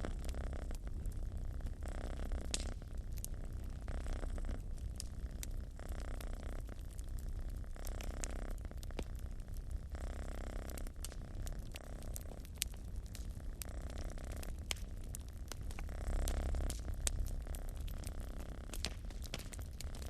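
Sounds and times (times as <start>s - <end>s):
cat purring: 0.0s - 20.0s
wood fire crackling and popping: 0.0s - 20.0s.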